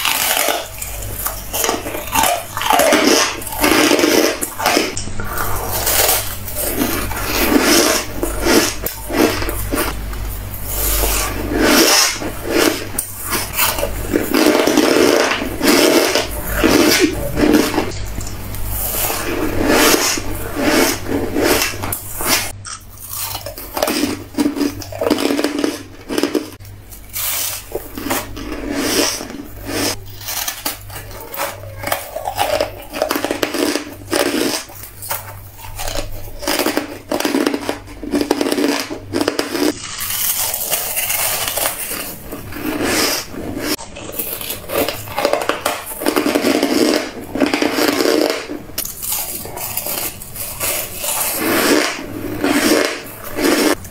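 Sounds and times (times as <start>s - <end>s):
metal spoon scraping plastic container: 0.0s - 10.0s, 10.6s - 22.5s, 27.2s - 53.9s
ice crunching being chewed: 0.0s - 53.9s.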